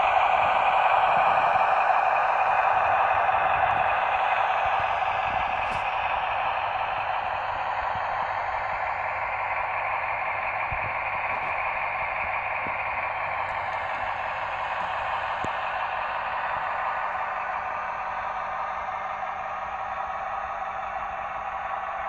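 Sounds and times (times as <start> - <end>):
model train whirring: 0.0 - 22.0.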